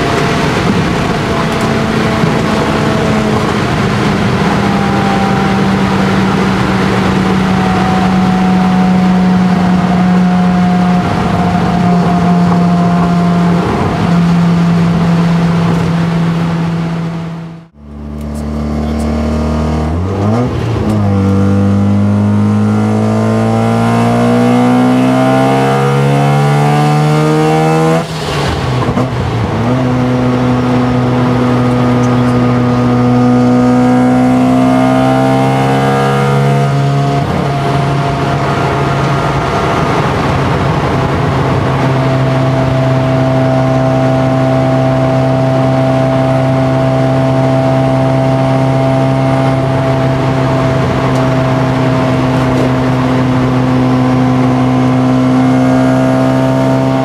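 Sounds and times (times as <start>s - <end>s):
rotary engine accelerating: 0.0s - 57.0s.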